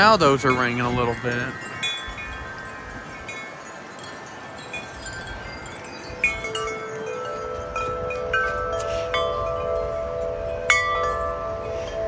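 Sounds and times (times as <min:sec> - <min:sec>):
wind chimes ringing: 0:00.0 - 0:12.0.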